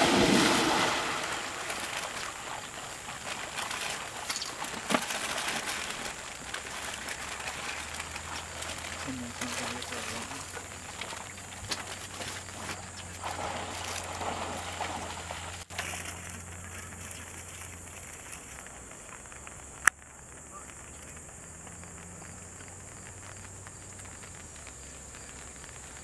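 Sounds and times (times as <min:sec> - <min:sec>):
faint outdoor background noise: 0:00.0 - 0:26.0
light crackle: 0:00.0 - 0:26.0.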